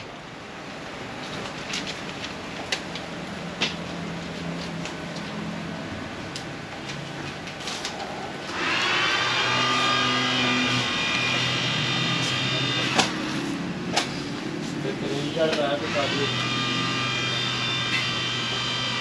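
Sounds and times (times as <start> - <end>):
passing traffic hum: 0.0 - 19.0.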